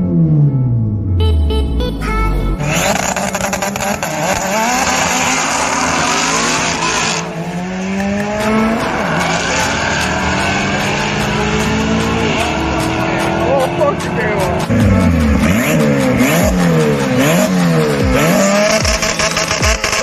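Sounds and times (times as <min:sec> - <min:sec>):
race car engine revving: 0:01.9 - 0:20.0.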